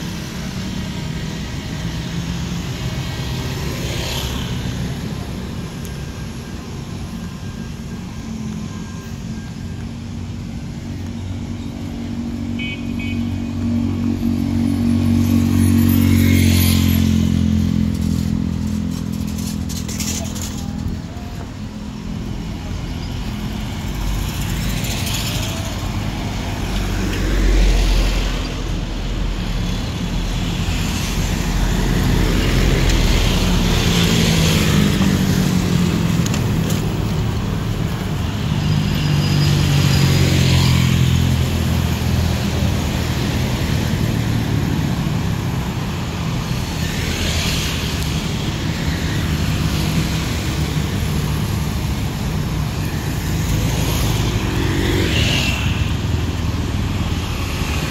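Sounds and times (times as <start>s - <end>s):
motorcycles and scooters passing: 0.0s - 57.9s.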